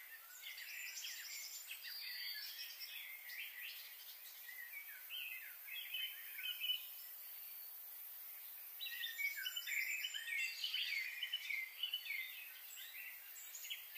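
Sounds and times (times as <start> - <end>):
faint steady hiss: 0.0 - 13.9
small birds chirping: 0.0 - 13.9.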